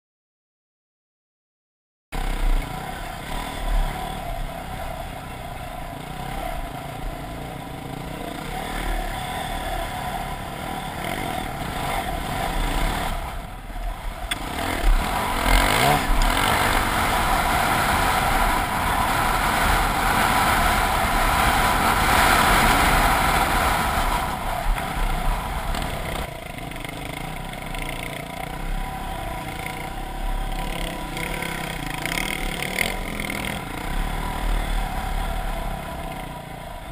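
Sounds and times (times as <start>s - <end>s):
dirt bike engine revving: 2.2s - 36.9s.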